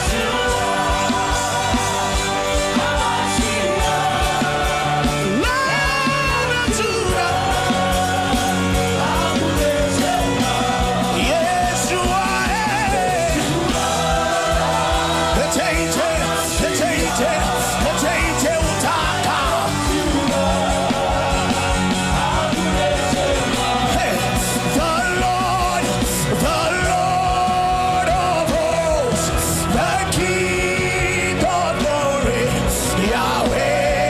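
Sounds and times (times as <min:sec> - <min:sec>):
voices singing and wailing: 0:00.0 - 0:34.0
worship music with steady beat: 0:00.0 - 0:34.0.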